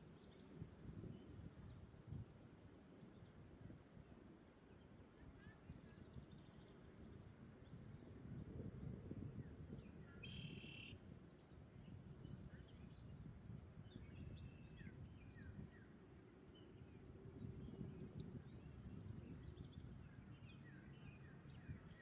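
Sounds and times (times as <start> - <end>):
wind rumble on microphone: 0.0 - 4.4, 5.2 - 22.0.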